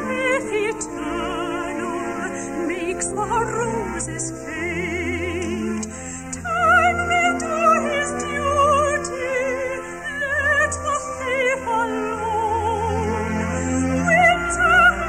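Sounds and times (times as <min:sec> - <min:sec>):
operatic soprano singing: 0:00.0 - 0:15.0
orchestra: 0:00.0 - 0:15.0.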